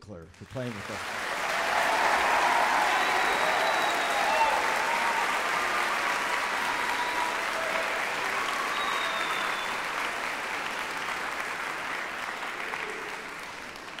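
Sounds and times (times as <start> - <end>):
audience applauding: 0.4 - 14.0.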